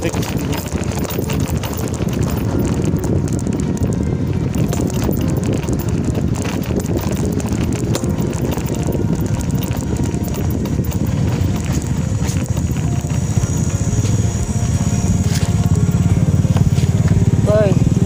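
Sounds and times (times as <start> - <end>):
footsteps on dirt road: 0.0 - 18.0
motorcycle engine approaching: 0.0 - 18.0
wind: 0.0 - 18.0.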